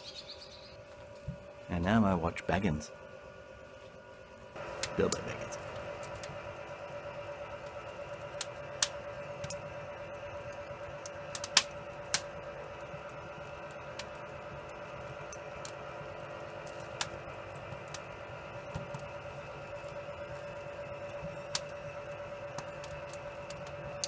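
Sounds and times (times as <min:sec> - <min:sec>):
steady hum: 0:00.0 - 0:24.0
wood fire crackling and popping: 0:04.6 - 0:24.0.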